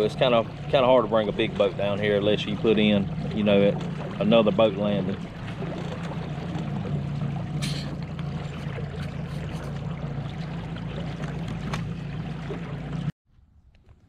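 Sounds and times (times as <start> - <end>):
boat motor humming: 0.0 - 13.1
water rushing along hull: 0.0 - 13.1.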